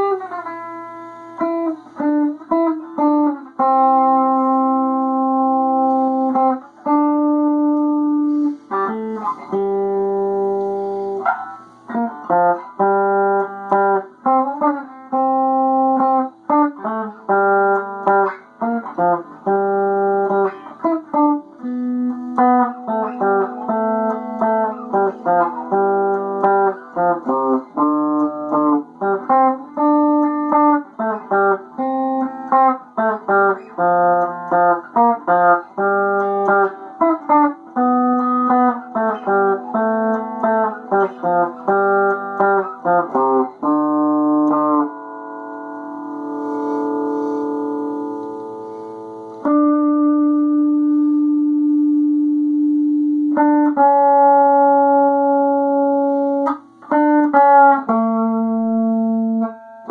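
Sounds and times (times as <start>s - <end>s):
guitar playing notes and chords: 0.0s - 59.9s.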